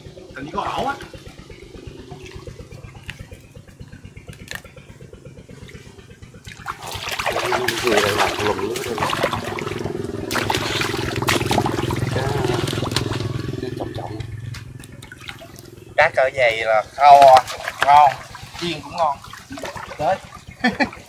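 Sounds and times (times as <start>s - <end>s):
low pulsing hum: 0.0s - 21.0s
water splashing and sloshing: 0.0s - 21.0s.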